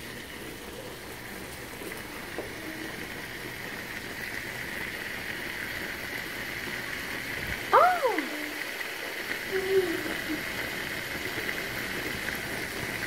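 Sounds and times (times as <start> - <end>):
stir-fry sizzling in a wok: 0.0 - 13.0.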